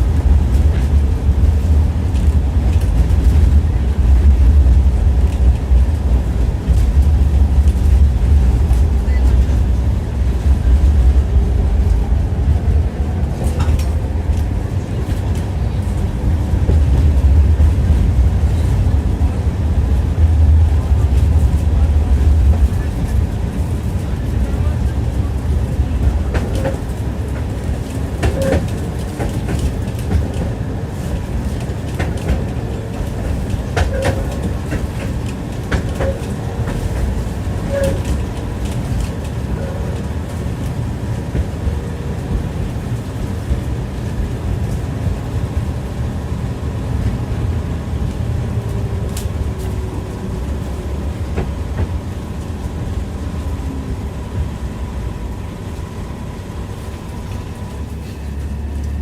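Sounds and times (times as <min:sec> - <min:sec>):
tram rumbling: 0:00.0 - 0:59.0.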